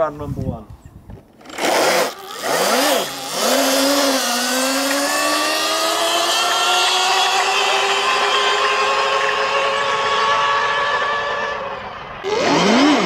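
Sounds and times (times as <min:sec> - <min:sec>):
electric motor whine: 0:01.4 - 0:13.0.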